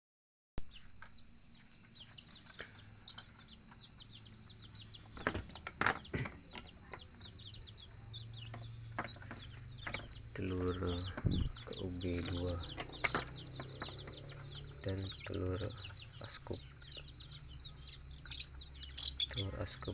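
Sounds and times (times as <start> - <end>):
falling bird chirps: 0.6 - 19.9
high-pitched insect drone: 0.7 - 19.9.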